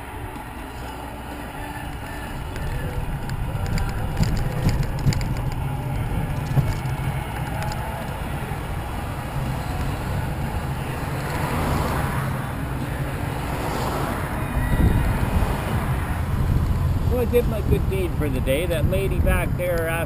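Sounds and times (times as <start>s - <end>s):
cars passing: 0.0s - 20.0s
wind and road noise rumble: 0.0s - 20.0s.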